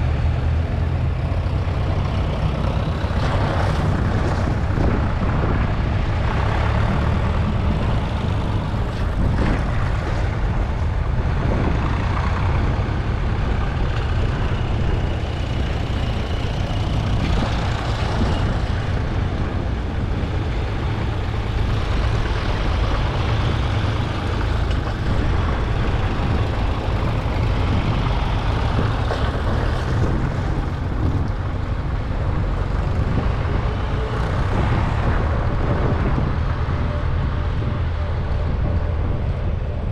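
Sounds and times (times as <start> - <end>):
road noise: 0.0 - 39.9
tractor engines rumbling: 0.0 - 39.9.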